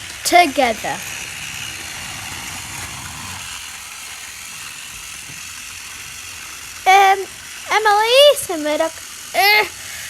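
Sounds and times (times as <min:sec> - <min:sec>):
toy train engines whirring: 0:00.0 - 0:10.0.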